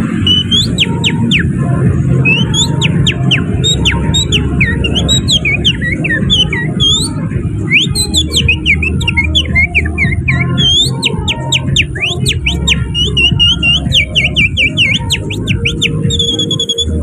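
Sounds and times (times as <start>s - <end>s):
person whistling birdsong: 0.2s - 1.5s, 2.2s - 17.0s.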